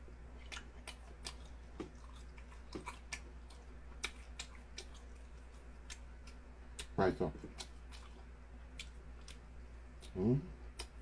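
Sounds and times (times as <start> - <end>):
person chewing food: 0.1 - 11.0.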